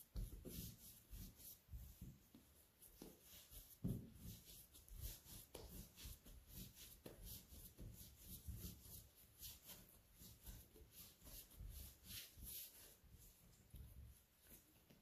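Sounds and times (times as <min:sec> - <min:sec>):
bread dough being kneaded: 0:00.0 - 0:15.0.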